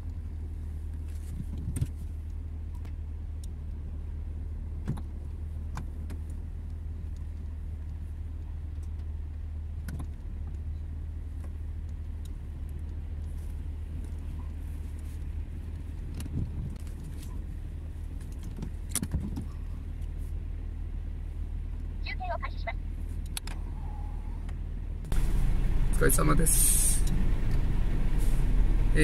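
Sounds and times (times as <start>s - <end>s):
diesel engines idling: 0.0s - 29.0s.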